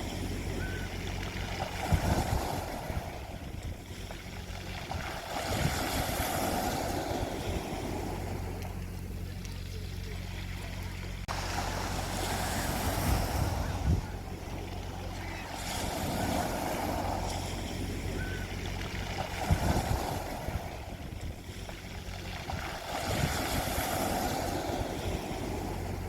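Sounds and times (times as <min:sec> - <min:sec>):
sea waves washing on beach: 0:00.0 - 0:26.0
steady low hum: 0:00.0 - 0:26.0
wind buffeting microphone: 0:00.0 - 0:26.0.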